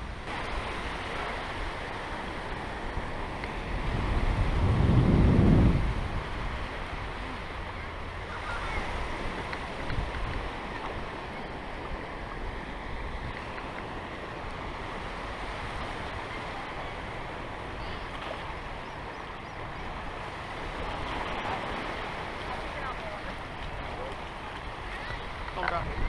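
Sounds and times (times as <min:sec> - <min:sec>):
small waves washing in: 0:00.0 - 0:26.0
wind rumble on microphone: 0:00.0 - 0:26.0.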